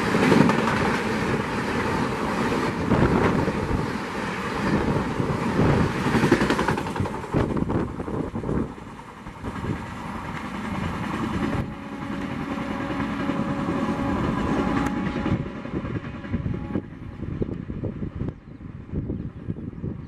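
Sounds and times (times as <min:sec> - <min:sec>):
wheels clattering on rails: 0:00.0 - 0:16.3
distant train rumble: 0:00.0 - 0:20.0
train passing at high speed: 0:00.0 - 0:20.0.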